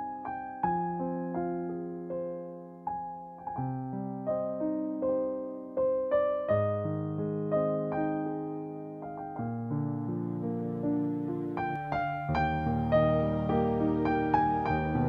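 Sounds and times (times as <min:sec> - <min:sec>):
slow piano piece: 0:00.0 - 0:15.0.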